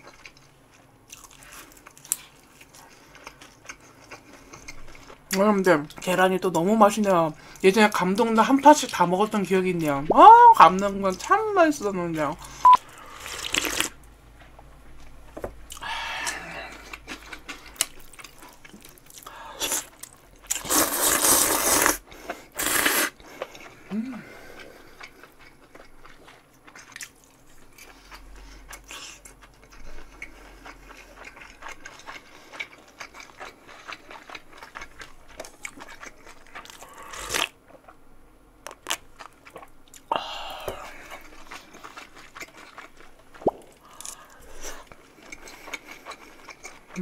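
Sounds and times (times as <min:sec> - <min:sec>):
chewing and crunching: 0:00.0 - 0:06.1, 0:12.4 - 0:22.5, 0:23.2 - 0:38.0, 0:38.6 - 0:40.1, 0:40.8 - 0:47.0.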